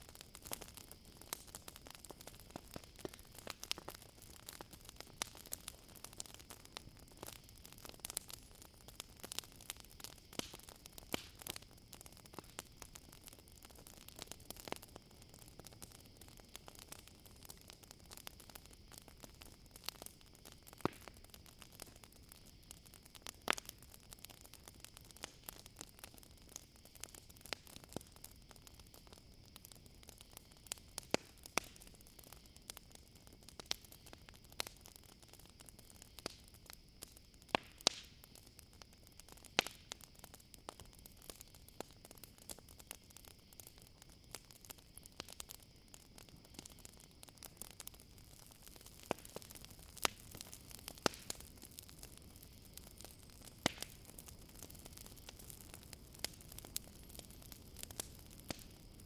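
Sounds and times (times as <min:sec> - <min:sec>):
campfire crackling: 0:00.0 - 0:59.0
crickets chirring: 0:00.0 - 0:59.0.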